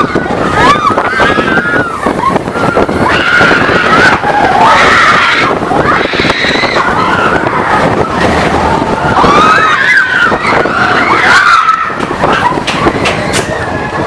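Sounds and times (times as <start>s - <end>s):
riders screaming and whooping: 0.0s - 14.0s
roller coaster running on track: 0.0s - 14.0s.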